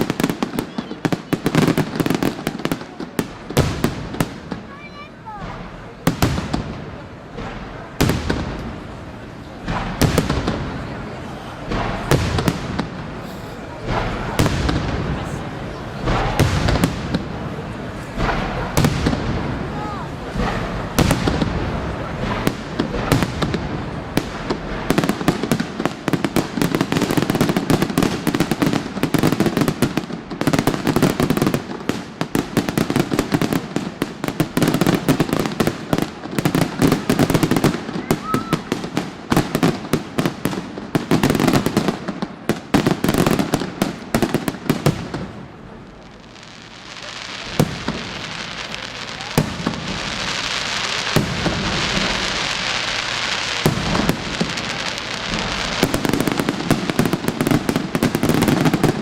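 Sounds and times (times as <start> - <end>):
crackling hiss: 0.0 - 59.0
firework bangs: 0.0 - 59.0
firework crackles: 0.0 - 59.0.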